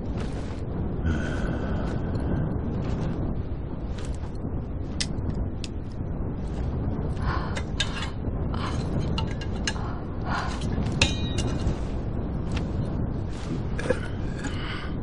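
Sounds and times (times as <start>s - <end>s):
low wind noise: 0.0s - 15.0s.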